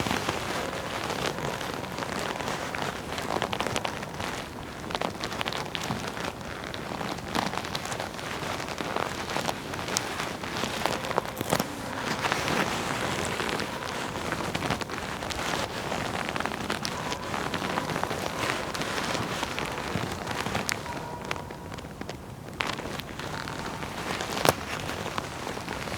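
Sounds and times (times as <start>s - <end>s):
leather crackles and creaks: 0.0s - 25.9s
leather rustling and scuffing: 0.0s - 25.9s.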